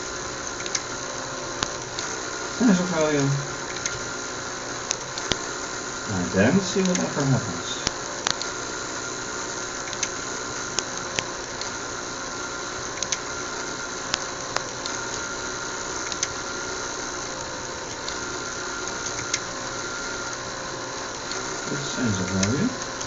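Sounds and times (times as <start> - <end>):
steady whirring hum: 0.0 - 23.0.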